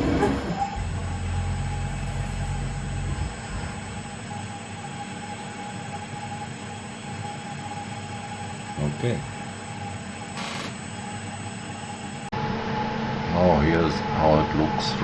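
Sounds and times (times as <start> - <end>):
low hum: 0.0 - 12.2
machine drives whining: 0.0 - 12.3.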